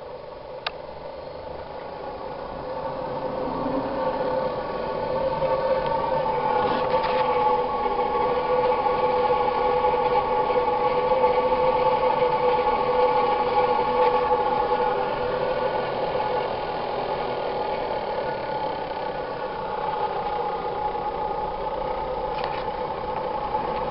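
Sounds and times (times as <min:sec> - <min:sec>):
small engine droning: 0:00.0 - 0:23.9.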